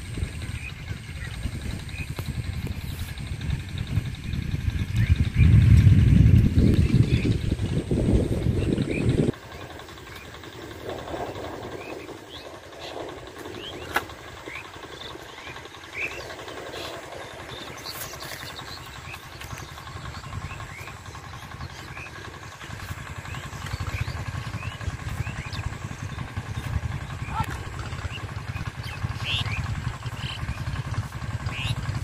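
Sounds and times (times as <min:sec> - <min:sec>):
distant engine rumble: 0:00.0 - 0:32.0
small birds chirping: 0:00.0 - 0:32.0.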